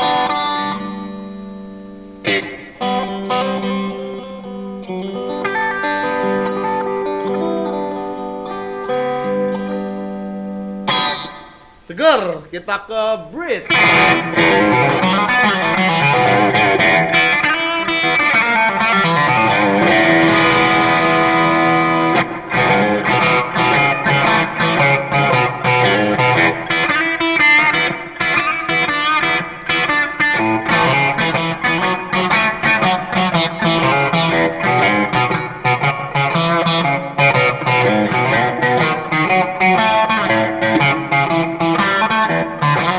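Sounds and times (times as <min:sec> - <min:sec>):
solo electric guitar: 0:00.0 - 0:11.9, 0:13.6 - 0:42.9.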